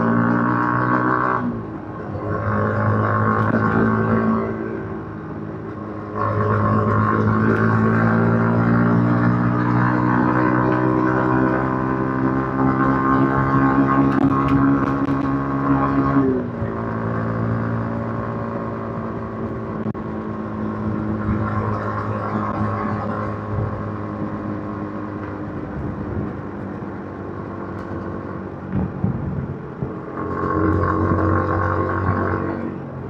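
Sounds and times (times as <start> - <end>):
motorcycle engine revving: 0.0 - 33.0
wind and road noise: 0.0 - 33.0.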